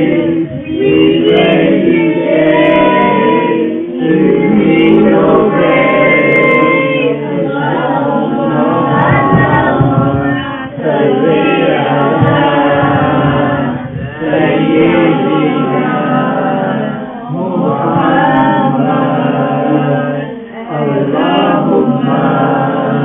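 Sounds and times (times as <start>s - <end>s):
children singing in chorus: 0.0s - 23.0s.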